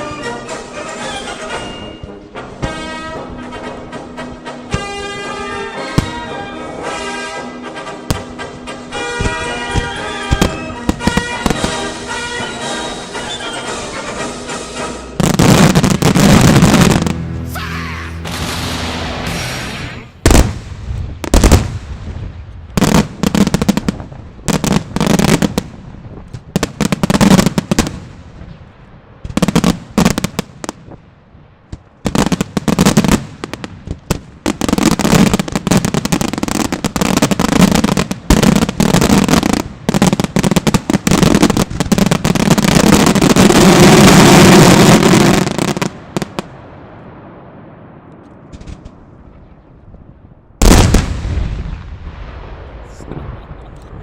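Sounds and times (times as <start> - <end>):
fireworks bangs: 4.7 - 54.0.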